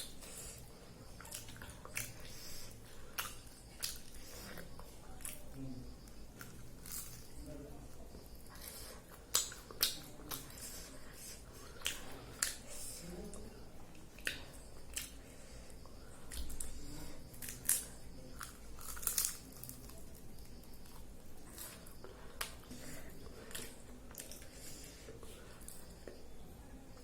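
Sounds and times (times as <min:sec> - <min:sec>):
chewing: 0:00.0 - 0:26.3.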